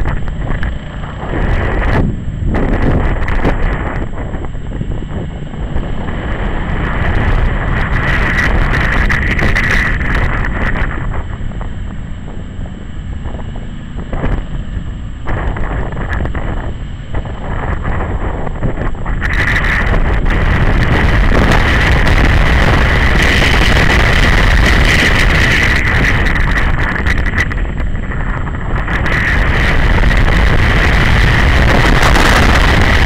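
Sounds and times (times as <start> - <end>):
motorcycle engine running: 0.0 - 33.0
wind rushing over microphone: 0.0 - 33.0.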